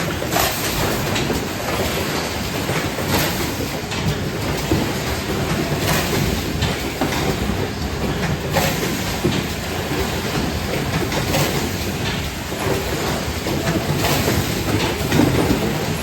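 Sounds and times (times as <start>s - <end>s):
packaging machine clattering: 0.0s - 16.0s.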